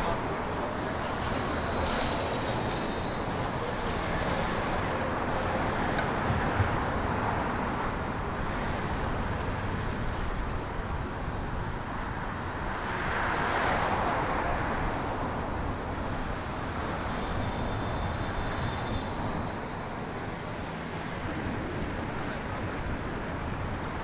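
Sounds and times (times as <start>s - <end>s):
passing cars and road noise: 0.0s - 24.0s.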